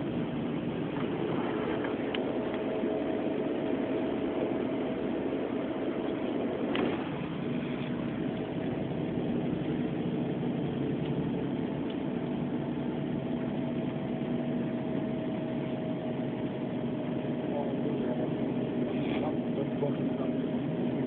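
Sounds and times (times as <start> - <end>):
bus engine drone: 0.0 - 21.0
road noise inside cabin: 0.0 - 21.0.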